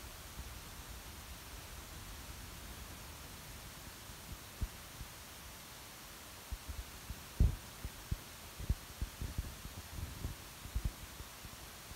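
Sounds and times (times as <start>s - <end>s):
microphone hiss: 0.0s - 11.9s.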